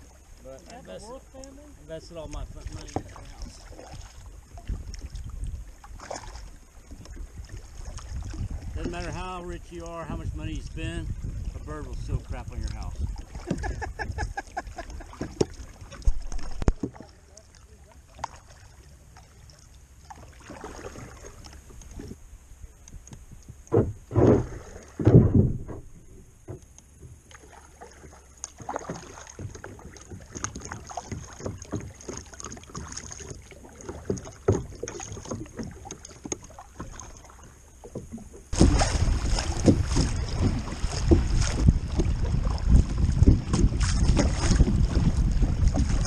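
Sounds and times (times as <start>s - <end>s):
paddle knocks and splashes: 0.0s - 22.2s, 23.3s - 46.0s
paddle strokes and drips: 0.0s - 46.0s
water rushing against a hull: 0.0s - 46.0s.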